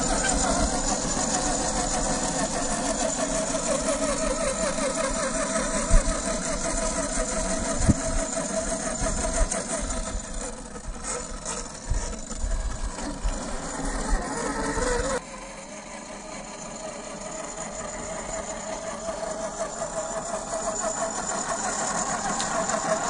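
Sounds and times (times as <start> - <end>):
electric motor and gears whining: 0.0 - 23.0.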